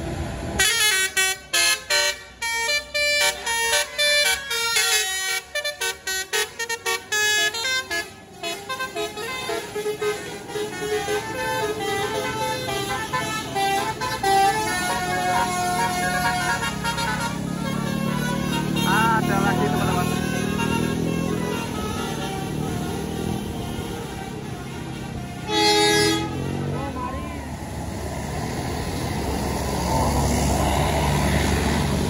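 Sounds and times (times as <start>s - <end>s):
bus musical horn playing a tune: 0.6s - 27.4s.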